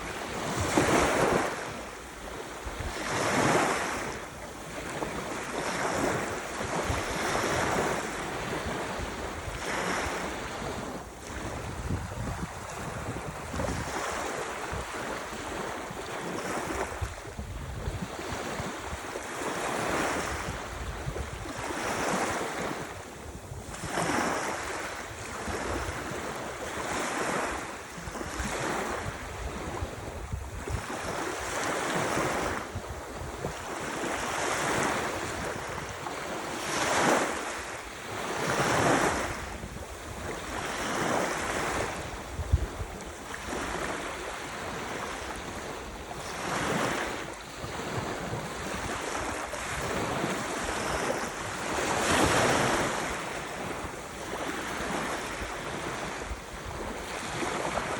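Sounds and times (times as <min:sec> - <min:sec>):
waves breaking: 0:00.0 - 0:57.9
wind rumble on microphone: 0:00.0 - 0:57.9.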